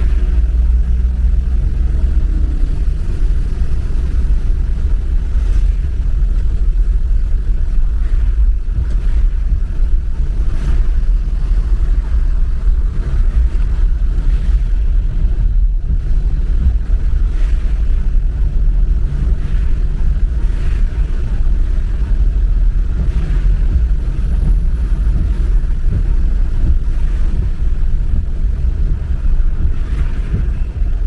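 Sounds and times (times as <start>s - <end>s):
car engine and road rumble: 0.0s - 31.0s.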